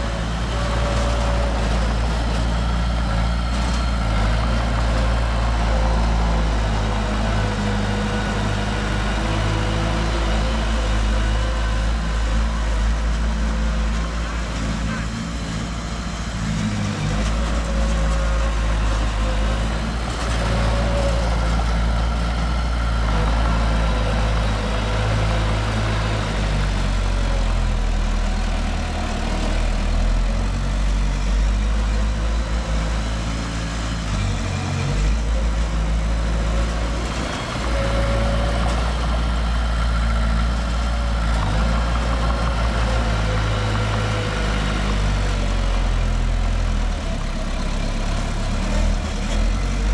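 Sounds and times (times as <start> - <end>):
heavy machinery diesel engine: 0.0 - 49.9.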